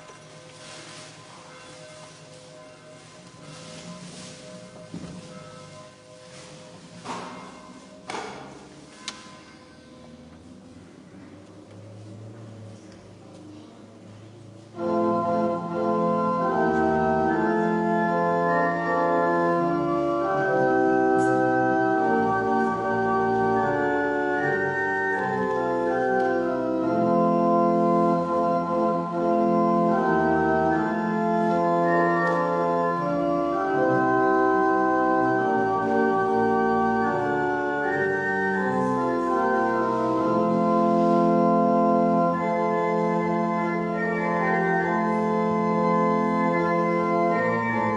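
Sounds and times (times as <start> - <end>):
church organ chords: 0.0 - 8.9, 14.6 - 47.9.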